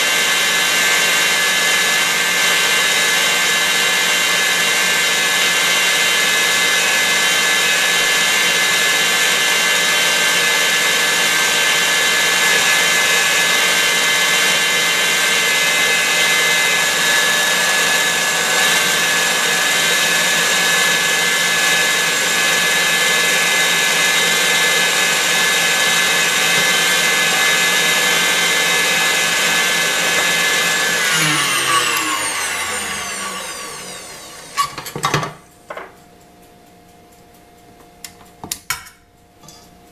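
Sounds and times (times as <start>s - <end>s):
stand mixer motor whine: 0.0s - 35.9s.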